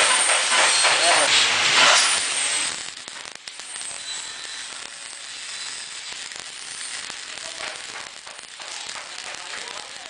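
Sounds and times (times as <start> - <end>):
crackling hiss of rapid clicks: 0.0 - 10.0.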